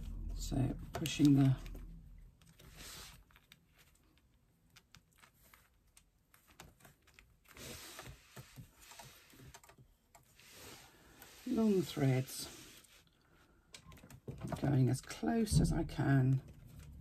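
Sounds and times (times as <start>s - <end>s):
soft rustle of handling: 0.0s - 13.7s.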